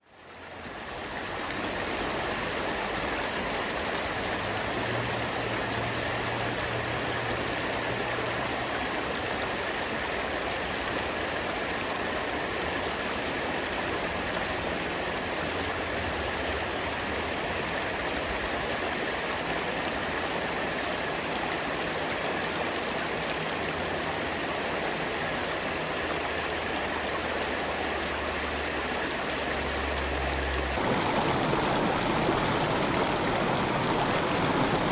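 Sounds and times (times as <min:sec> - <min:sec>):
river stream flowing: 0:00.0 - 0:34.9.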